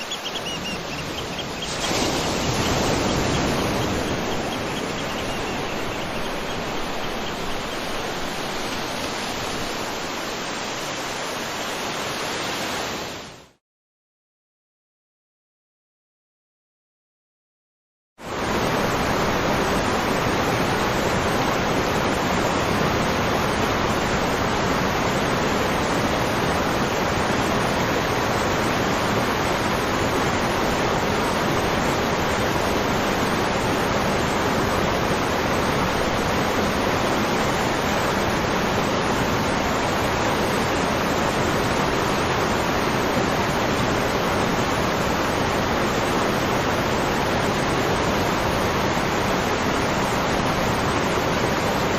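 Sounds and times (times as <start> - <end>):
waterfall rushing: 0.0 - 13.4, 18.3 - 51.9.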